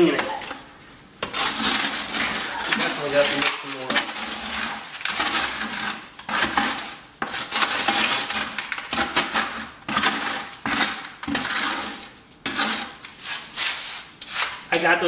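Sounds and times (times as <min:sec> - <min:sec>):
stick scraping wet concrete: 0:00.0 - 0:15.0.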